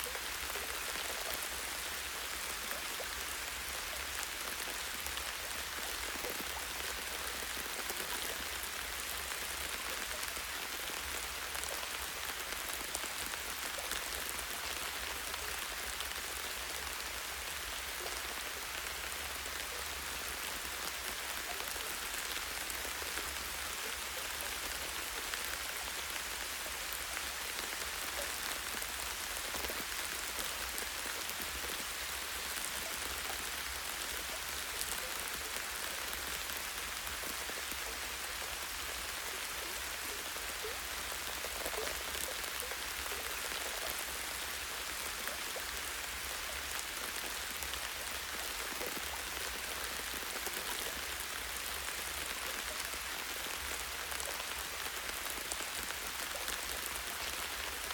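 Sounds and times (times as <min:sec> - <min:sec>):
rain pattering on leaves: 0:00.0 - 0:57.9.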